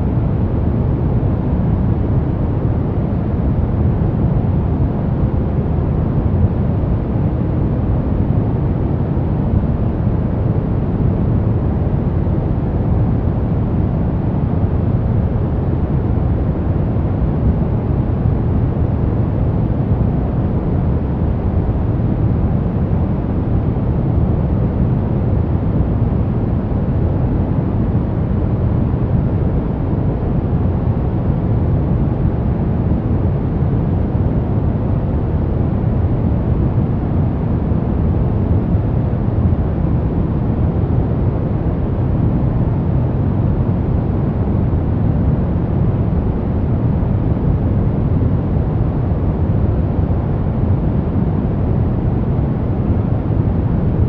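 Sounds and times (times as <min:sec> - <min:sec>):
deep rumbling white noise: 0:00.0 - 0:54.0.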